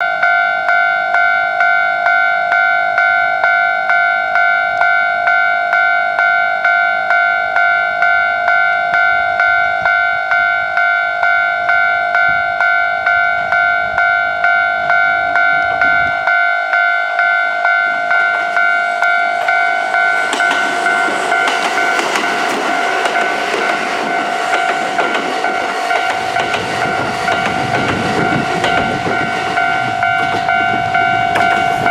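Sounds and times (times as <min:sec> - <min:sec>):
level crossing warning bell ringing: 0:00.0 - 0:31.9
passing train running noise: 0:00.0 - 0:31.9.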